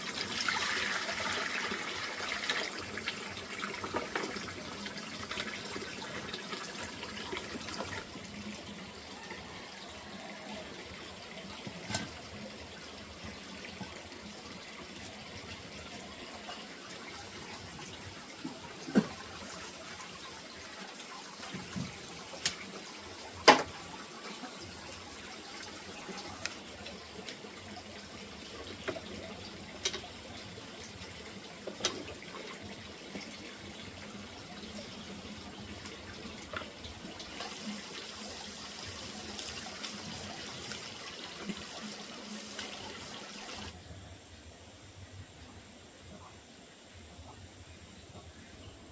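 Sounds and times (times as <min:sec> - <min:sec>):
water running: 0:00.0 - 0:43.8.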